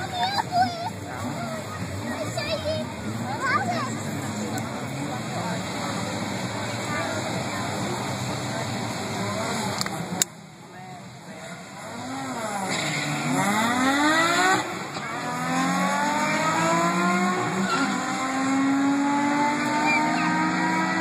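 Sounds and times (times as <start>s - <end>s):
drag car engines revving: 0.0s - 21.0s.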